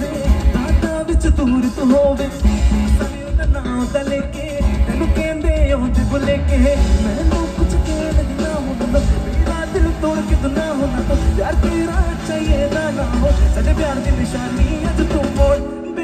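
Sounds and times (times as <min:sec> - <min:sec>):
drums: 0:00.0 - 0:16.0
electric guitars: 0:00.0 - 0:16.0
heavy bass: 0:00.0 - 0:16.0
keyboard: 0:00.0 - 0:16.0
person singing: 0:00.0 - 0:16.0.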